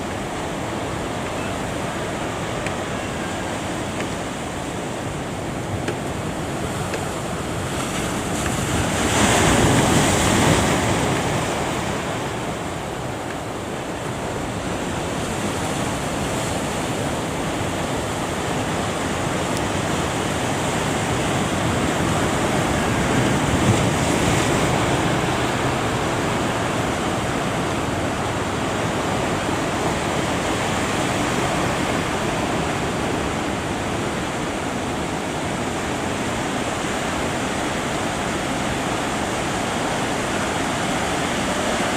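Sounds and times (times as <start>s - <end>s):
ocean surf breaking: 0.0s - 41.9s.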